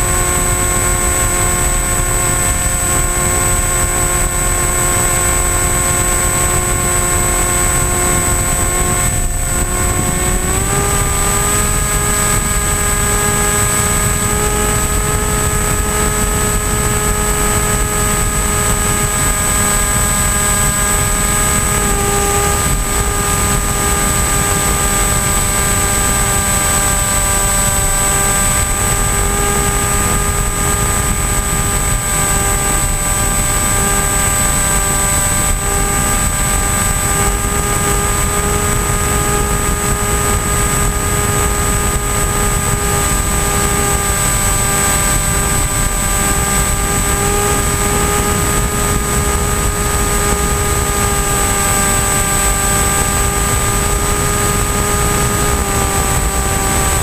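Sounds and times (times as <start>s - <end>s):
electric motor and propeller whine: 0.0s - 57.0s
rumbling wind noise: 0.0s - 57.0s.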